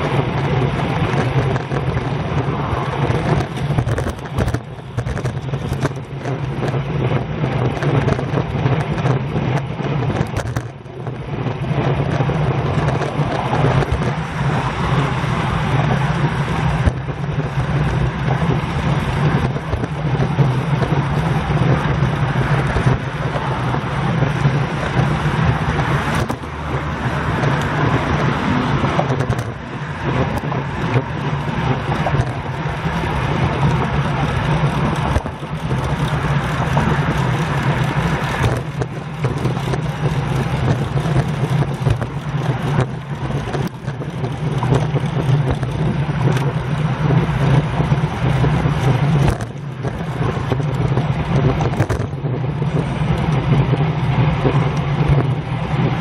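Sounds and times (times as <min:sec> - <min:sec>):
traffic passing: 0:00.0 - 0:56.0
wind rushing over microphone: 0:00.0 - 0:56.0.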